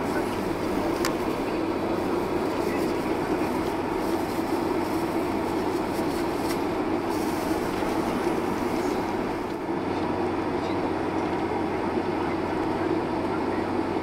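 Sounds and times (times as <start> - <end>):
jet engines at taxi power: 0.0 - 14.0
wheels rumbling on tarmac: 0.0 - 14.0.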